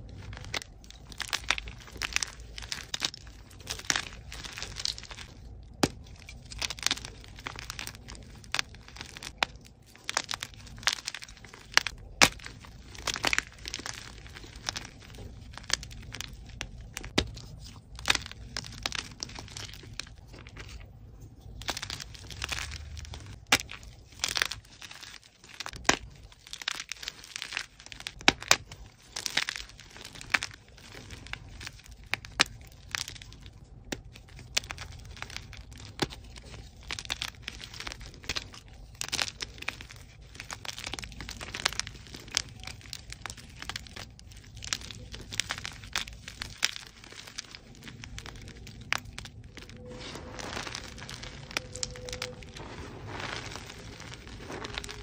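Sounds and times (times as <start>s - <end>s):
chalk cracking and crumbling: 0.0s - 55.0s.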